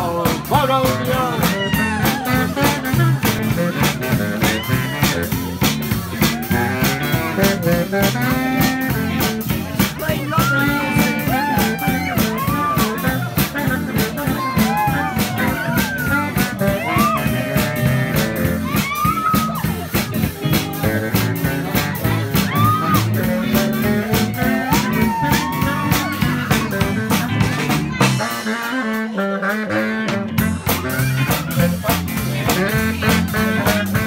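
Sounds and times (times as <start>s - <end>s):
bass: 0.0s - 34.0s
drum kit beat: 0.0s - 34.0s
saxophone melody: 0.0s - 34.0s.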